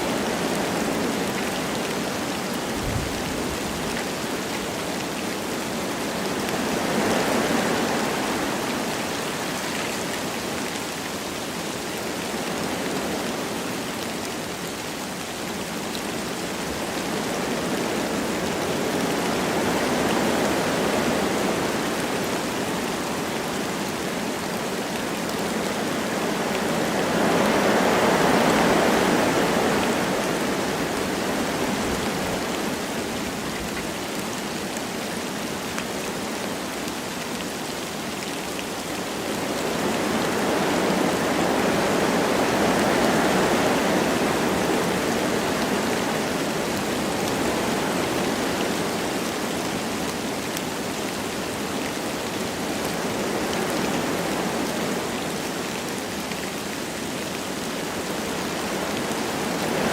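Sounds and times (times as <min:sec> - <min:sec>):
light rain: 0:00.0 - 0:59.9
wind through trees: 0:00.0 - 0:59.9.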